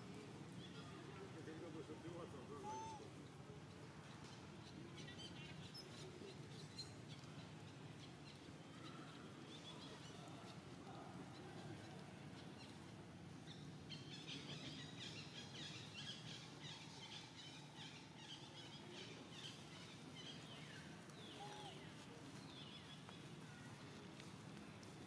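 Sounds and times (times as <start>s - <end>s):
faint outdoor hum: 0.0s - 25.0s.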